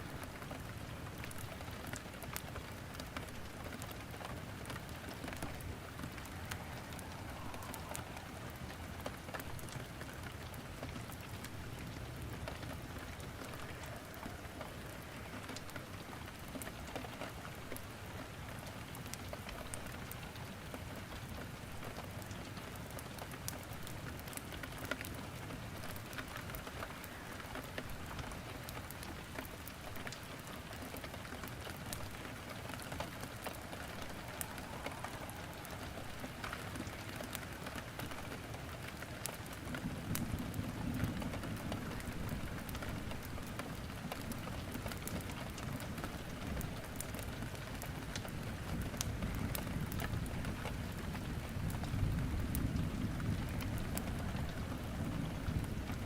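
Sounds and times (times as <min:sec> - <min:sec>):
steady rain falling: 0:00.0 - 0:56.0
wood crackling in fireplace: 0:00.0 - 0:56.0.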